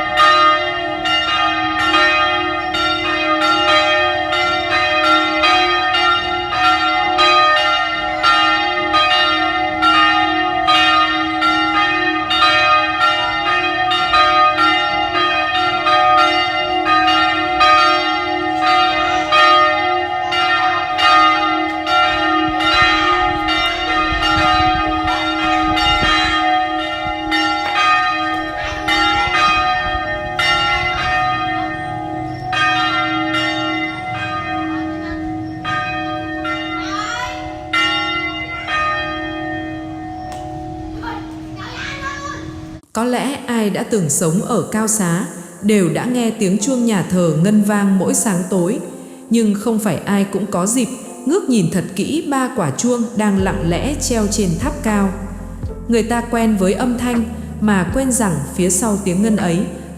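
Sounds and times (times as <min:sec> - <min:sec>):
church bells ringing: 0:00.0 - 0:42.8, 0:44.0 - 0:59.9.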